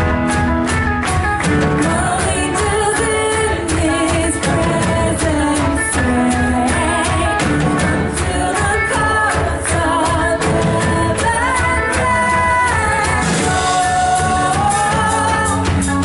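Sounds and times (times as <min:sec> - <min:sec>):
steady drum beat: 0:00.0 - 0:16.0
worship band playing upbeat song: 0:00.0 - 0:16.0
person singing: 0:01.6 - 0:16.0.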